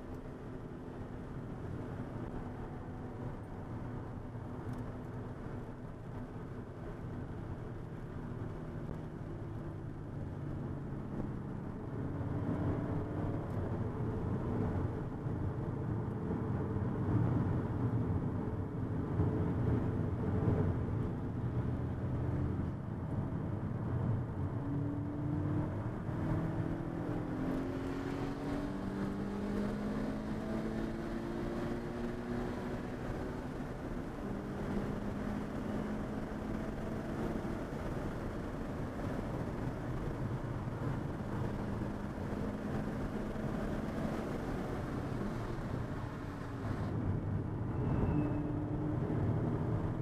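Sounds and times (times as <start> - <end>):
car engine: 0.0 - 50.0
road noise inside car cabin: 0.0 - 50.0.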